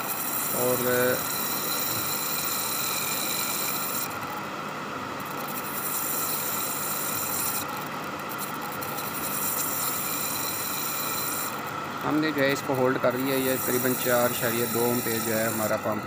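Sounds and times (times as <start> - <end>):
water pump motor hum: 0.0 - 16.0.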